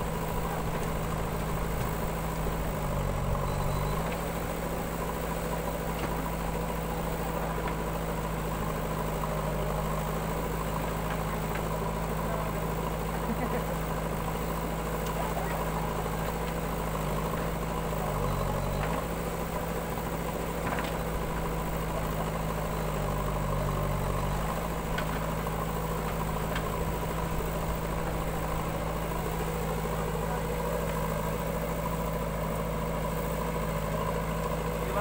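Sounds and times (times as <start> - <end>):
diesel engines idling: 0.0 - 35.0.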